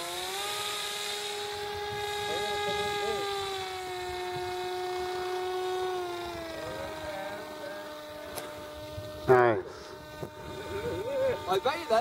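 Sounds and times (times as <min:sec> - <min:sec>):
model airplane motor whine: 0:00.0 - 0:12.0.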